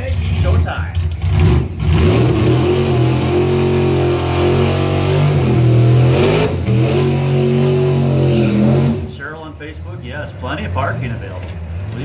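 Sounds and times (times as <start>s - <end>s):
drag racing car engine: 0.0s - 12.0s.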